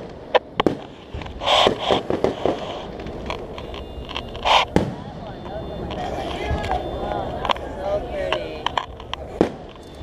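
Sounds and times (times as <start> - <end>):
fireworks bangs and pops: 0.0 - 7.6, 8.6 - 10.0.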